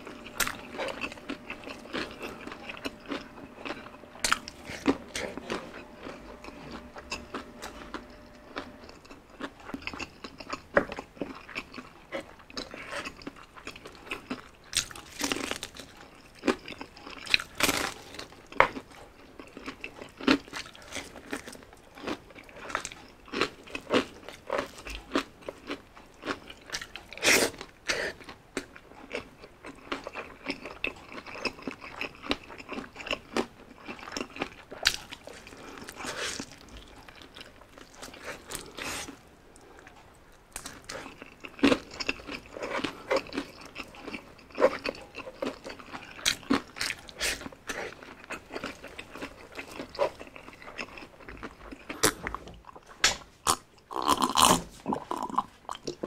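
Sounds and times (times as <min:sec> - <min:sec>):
person crunching fried chicken: 0:00.0 - 0:56.0.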